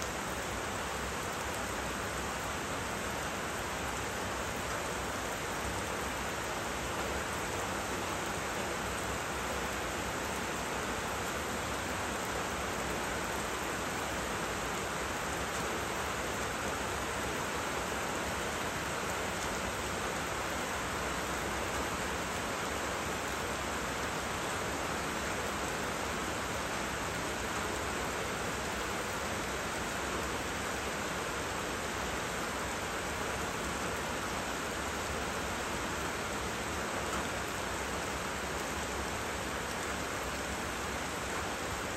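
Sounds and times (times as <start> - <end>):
rain falling on foliage: 0.0 - 41.9.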